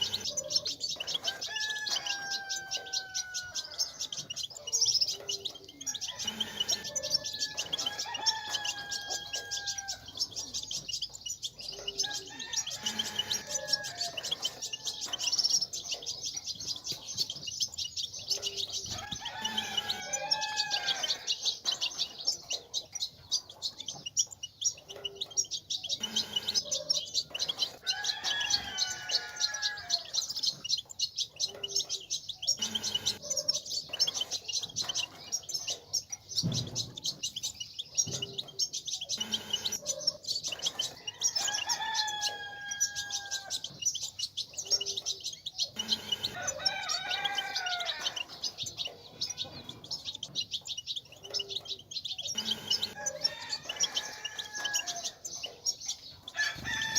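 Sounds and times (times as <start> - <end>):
goldfinch twittering: 0.0 - 56.9.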